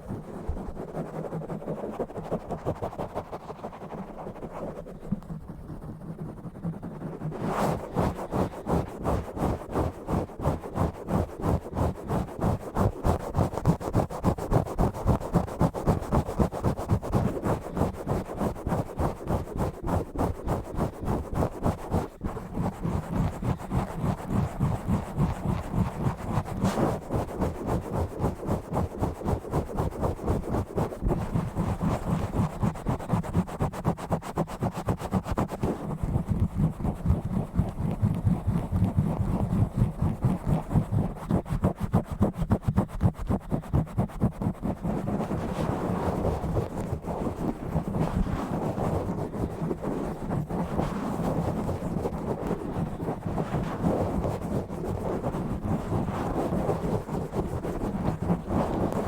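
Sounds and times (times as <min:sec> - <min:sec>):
scratching on microphone: 0:00.0 - 0:59.0.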